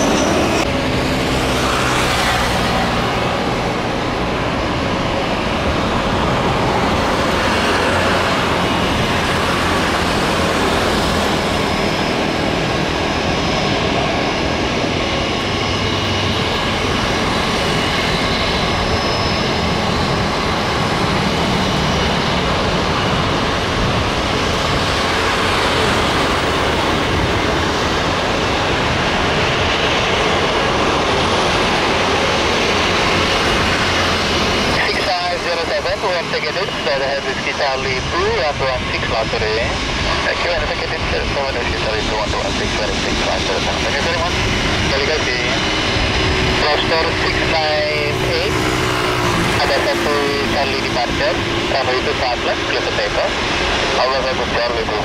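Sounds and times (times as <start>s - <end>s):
high engine whine: 0.0s - 55.0s
jet engines idling: 0.0s - 55.0s.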